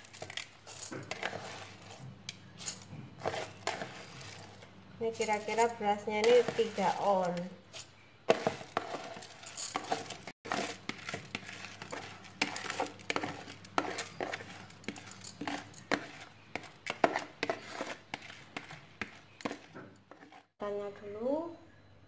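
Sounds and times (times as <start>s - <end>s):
spatula scraping plastic bowl: 0.2s - 2.1s, 2.7s - 20.5s.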